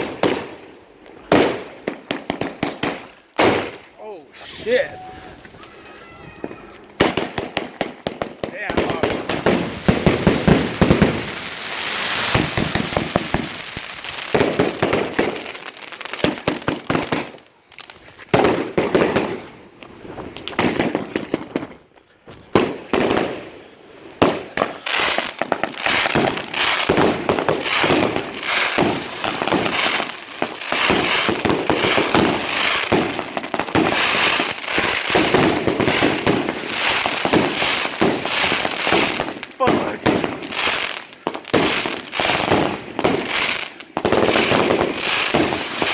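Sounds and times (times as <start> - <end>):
fireworks firing and popping: 0.0 - 21.8, 22.4 - 45.9.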